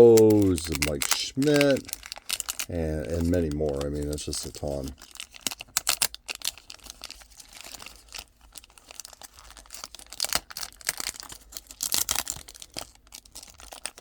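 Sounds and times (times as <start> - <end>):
cellophane crinkling and tearing: 0.0 - 14.0.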